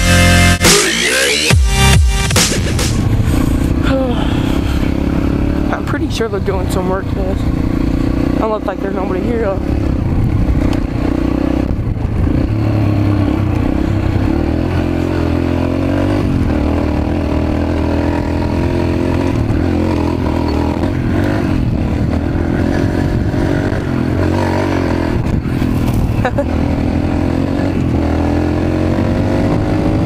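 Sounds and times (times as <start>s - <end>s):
small bike engine running: 3.0s - 30.0s.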